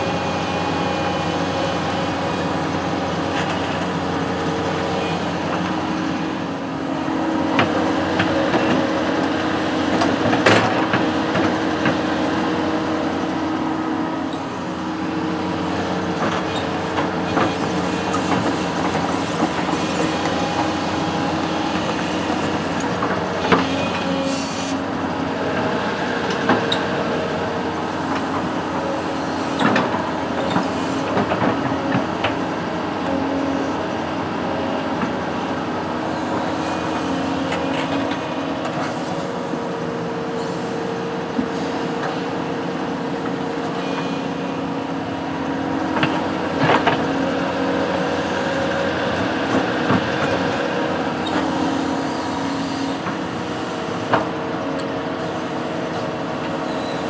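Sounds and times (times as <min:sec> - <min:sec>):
construction machine engine running: 0:00.0 - 0:57.0.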